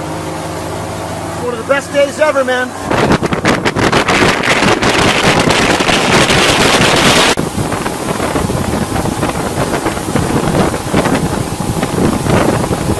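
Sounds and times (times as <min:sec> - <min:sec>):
wind rushing over microphone: 0:02.2 - 0:12.9.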